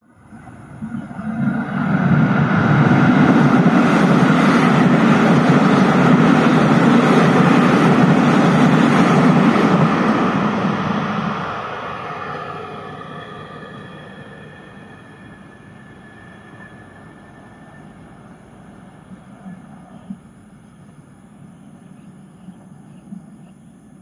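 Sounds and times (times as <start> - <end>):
electric train rushing past: 0.0 - 21.9.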